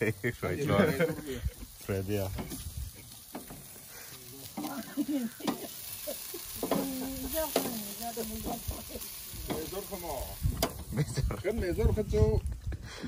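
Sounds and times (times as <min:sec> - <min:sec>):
meat sizzling on a grill: 0:00.0 - 0:13.0.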